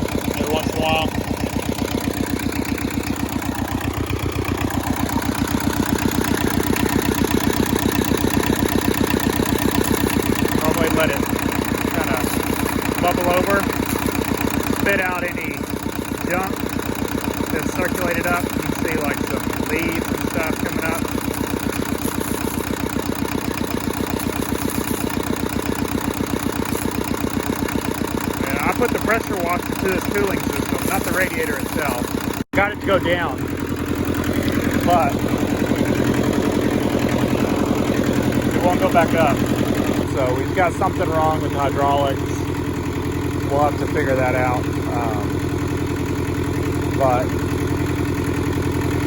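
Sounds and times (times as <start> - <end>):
tractor diesel engine idling: 0.0 - 49.0.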